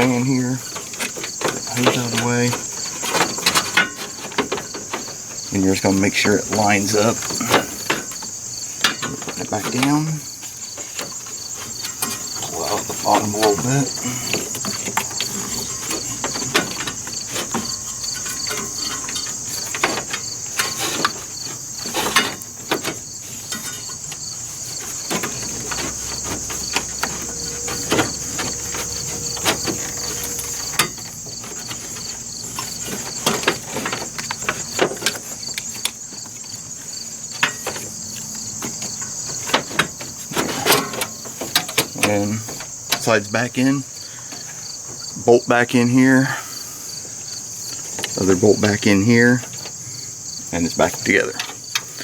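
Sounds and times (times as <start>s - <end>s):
plastic shroud knocks and scrapes: 0.0s - 43.7s
insects chirring: 0.0s - 52.0s.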